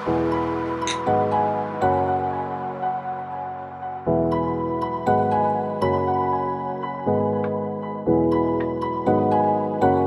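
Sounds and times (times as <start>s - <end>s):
soft gentle chords: 0.0s - 10.0s.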